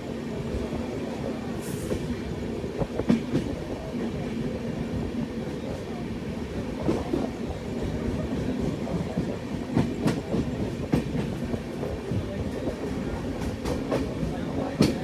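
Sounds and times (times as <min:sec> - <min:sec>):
train coach rumble: 0:00.1 - 0:15.0.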